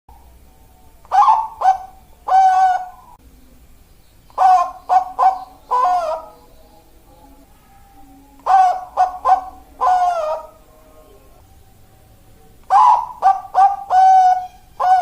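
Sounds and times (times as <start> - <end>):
dove cooing: 0.1 - 3.4, 4.3 - 15.0.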